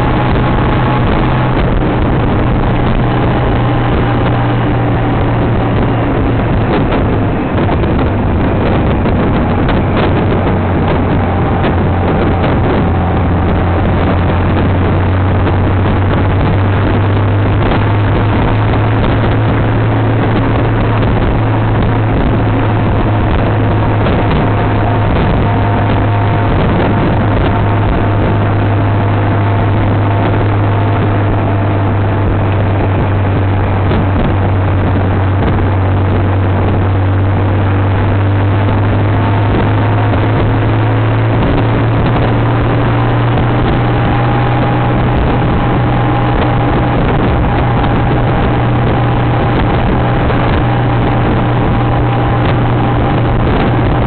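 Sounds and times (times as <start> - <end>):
motorcycle engine drone: 0.0 - 54.0
road and wind noise: 0.0 - 54.0.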